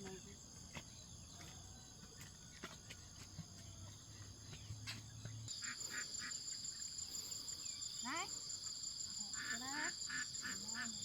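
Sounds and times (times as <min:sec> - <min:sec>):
faint insect chorus: 0:00.0 - 0:11.0.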